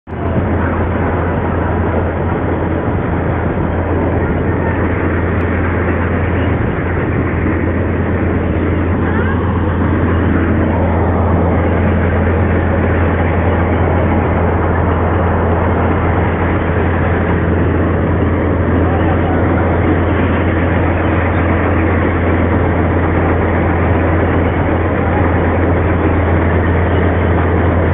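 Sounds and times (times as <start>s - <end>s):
constant low hum: 0.1s - 27.9s
vehicle rumbling in motion: 0.1s - 27.9s.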